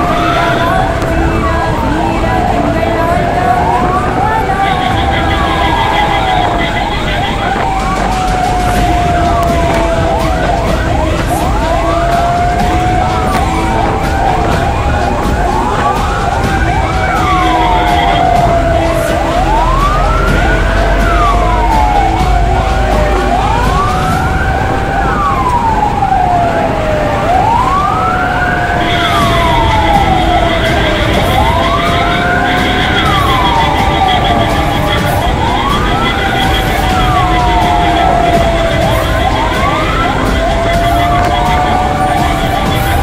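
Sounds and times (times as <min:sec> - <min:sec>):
ambulance siren wailing: 0:00.0 - 0:43.0
engine and road rumble: 0:00.0 - 0:43.0
steady high tone: 0:00.0 - 0:43.0.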